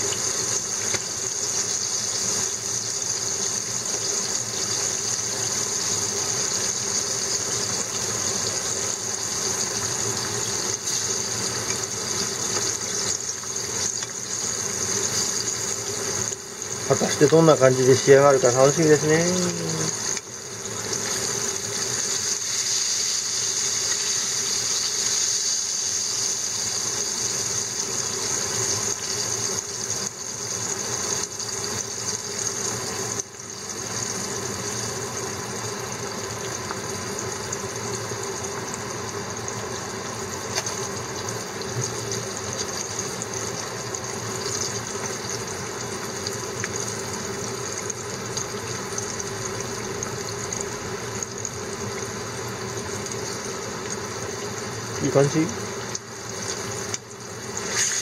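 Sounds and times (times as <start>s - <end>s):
fish sizzling in hot oil: 0.0s - 58.0s.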